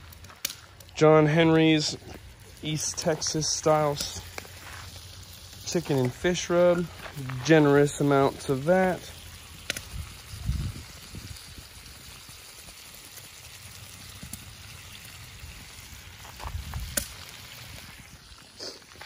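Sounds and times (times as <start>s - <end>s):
food sizzling in a pan: 1.5s - 19.0s.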